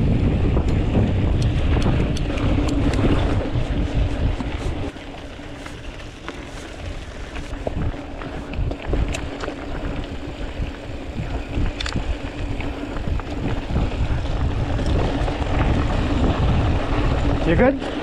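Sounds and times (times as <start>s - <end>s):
bike rattling: 0.0s - 18.0s
bike tyres rumbling on dirt: 0.0s - 18.0s
wind buffeting microphone: 0.0s - 18.0s.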